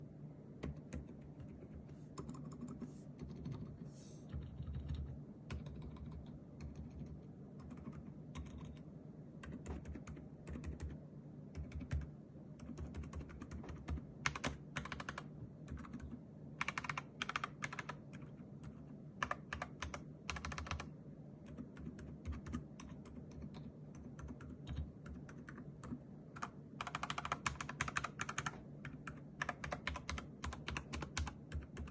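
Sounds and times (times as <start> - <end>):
mechanical keyboard typing: 0.6 - 3.8, 4.4 - 8.8, 9.4 - 11.0, 11.6 - 20.9, 21.5 - 31.9.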